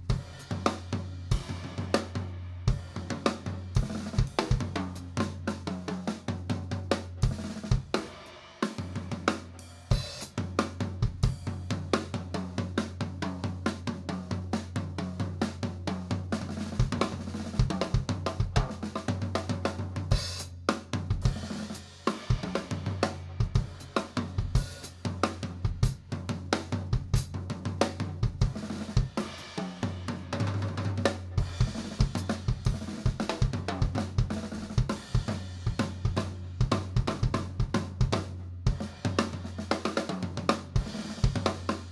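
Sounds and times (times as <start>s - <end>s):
drum kit: 0.0s - 41.9s.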